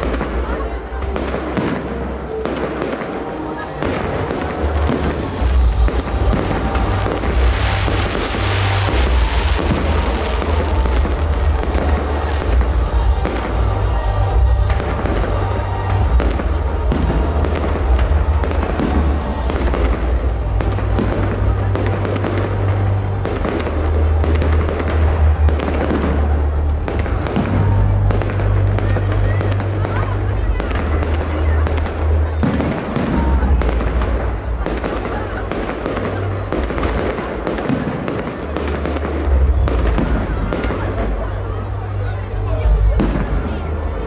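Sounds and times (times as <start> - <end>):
fireworks bursts rumbling: 0.0 - 44.0
fireworks crackling: 0.0 - 44.0
music playing: 0.0 - 44.0.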